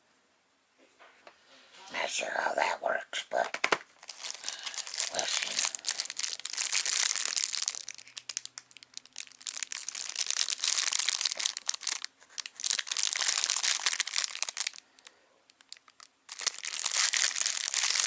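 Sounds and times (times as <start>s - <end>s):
plastic packaging crinkling: 3.4s - 18.0s.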